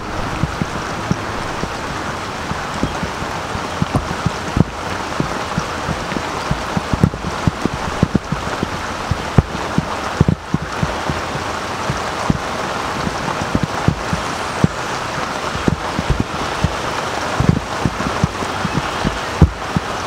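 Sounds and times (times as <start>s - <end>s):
raindrops thumping on microphone: 0.0s - 20.0s
steady rain: 0.0s - 20.0s.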